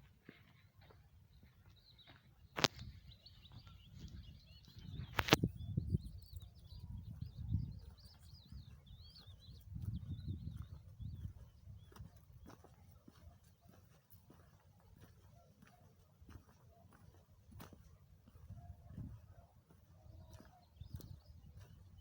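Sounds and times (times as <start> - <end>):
small birds chirping: 0.3 - 22.0.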